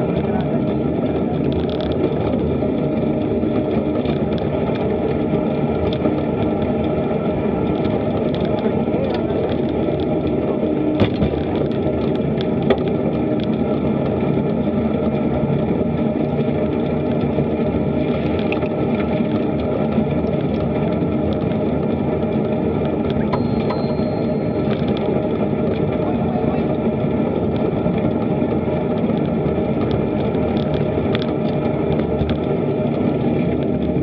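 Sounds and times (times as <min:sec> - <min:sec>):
tyre and road noise: 0:00.0 - 0:34.0.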